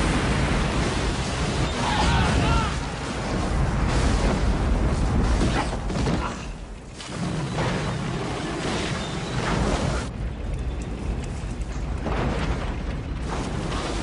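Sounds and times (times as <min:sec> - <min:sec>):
heavy rumbling and crashing: 0:00.0 - 0:14.0.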